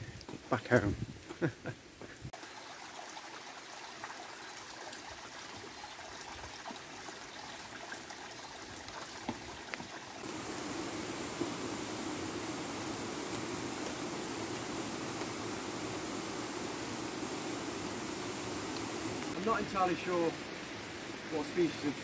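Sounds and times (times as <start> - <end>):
rain falling through foliage: 0.0 - 22.0
water drips: 2.4 - 22.0.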